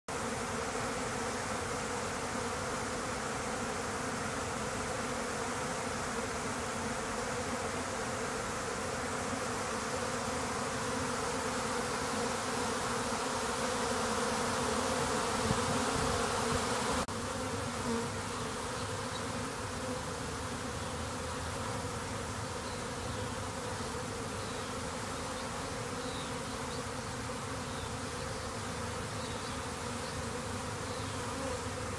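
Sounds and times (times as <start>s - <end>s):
bees buzzing: 0.1s - 31.9s.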